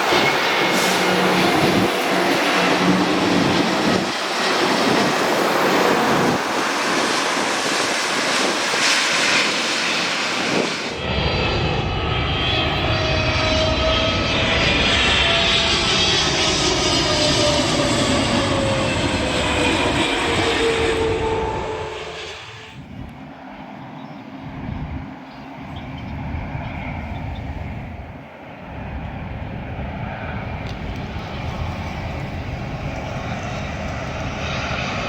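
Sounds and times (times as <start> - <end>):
jet airliner engine noise: 0.0 - 35.0.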